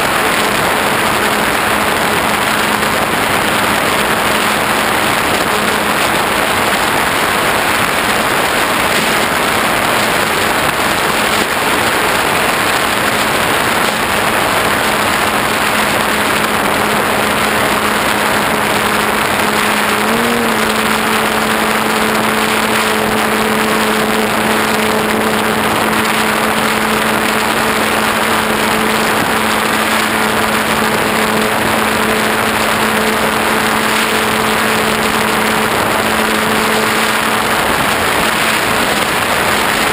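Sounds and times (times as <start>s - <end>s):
electric model plane motor hum: 0.0s - 39.9s
wind rushing over microphone: 0.0s - 39.9s.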